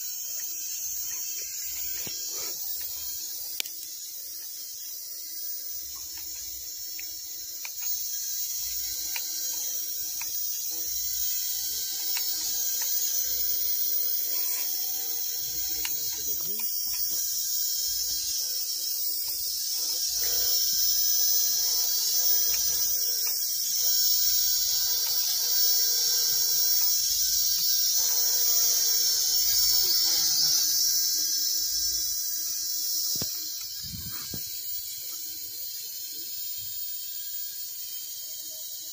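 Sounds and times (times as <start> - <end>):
toy drone propellers whining: 0.0 - 38.9.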